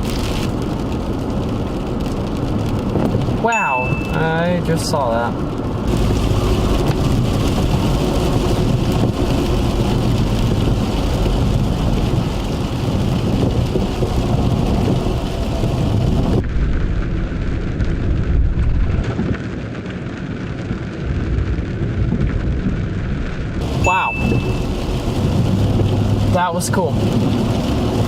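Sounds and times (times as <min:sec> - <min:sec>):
wind noise: 0:00.0 - 0:26.3
hard rain: 0:00.0 - 0:28.0
deep rumble of thunder: 0:05.3 - 0:28.0.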